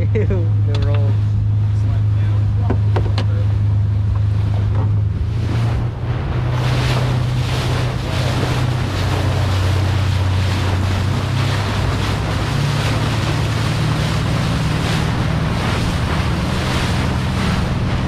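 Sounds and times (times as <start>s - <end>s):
boat engine drone: 0.0s - 18.0s
water rushing past hull: 0.0s - 18.0s
wind buffeting microphone: 0.0s - 18.0s.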